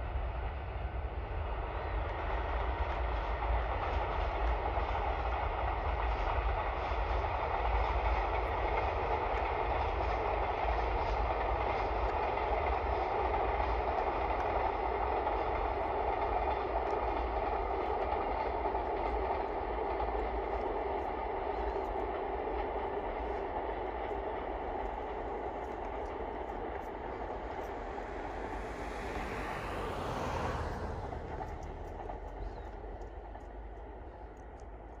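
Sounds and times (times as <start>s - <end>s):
distant freight train rolling: 0.0s - 35.0s.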